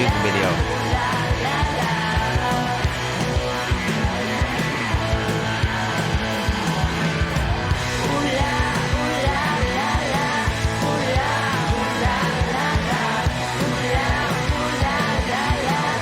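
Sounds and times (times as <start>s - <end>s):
rock song with singing: 0.0s - 16.0s
steady drum beat: 0.0s - 16.0s.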